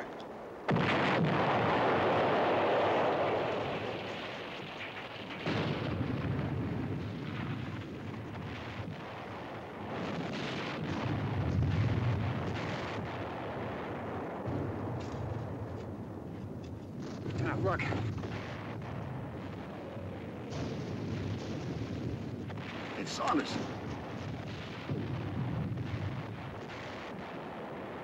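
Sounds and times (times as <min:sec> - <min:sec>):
artillery blasts rumbling: 0:00.0 - 0:28.0.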